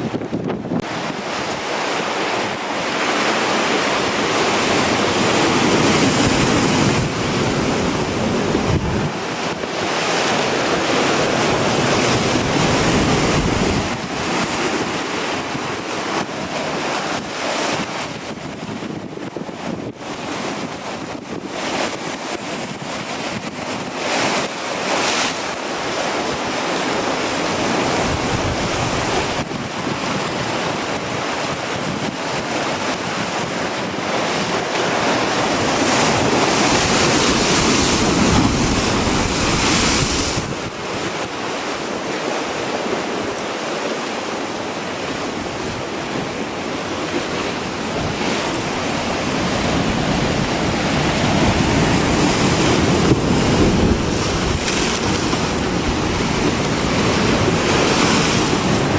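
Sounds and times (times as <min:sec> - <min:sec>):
wind buffeting microphone: 0:00.0 - 0:03.0, 0:03.6 - 0:24.1, 0:27.4 - 0:43.5, 0:44.6 - 0:58.9
ocean surf: 0:00.0 - 0:58.9.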